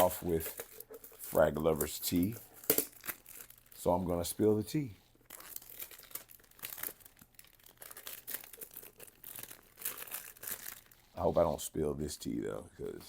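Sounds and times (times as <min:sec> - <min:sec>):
packaging crinkling and tearing: 0:00.0 - 0:11.4.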